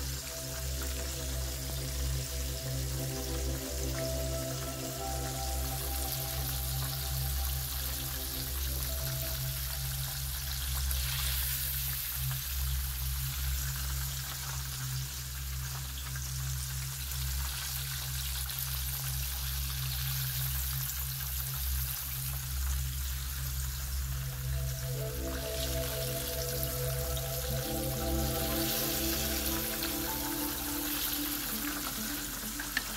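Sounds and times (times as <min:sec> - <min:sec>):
fish deep-frying in oil: 0:00.0 - 0:32.9.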